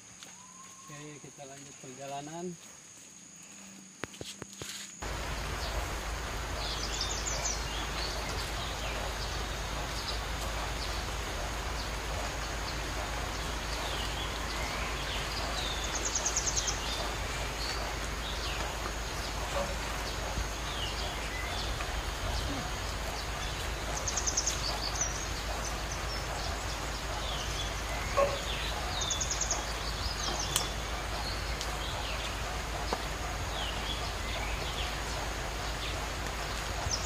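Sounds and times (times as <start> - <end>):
steady noisy hiss: 0.0 - 37.0
small birds chirping: 4.6 - 37.0.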